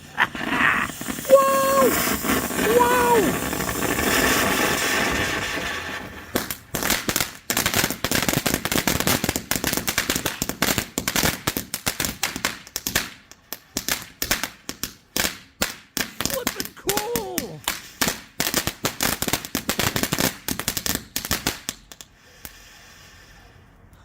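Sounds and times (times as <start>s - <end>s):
rapid crackling pops: 0.0s - 22.6s
firework fountain hissing: 0.0s - 23.4s.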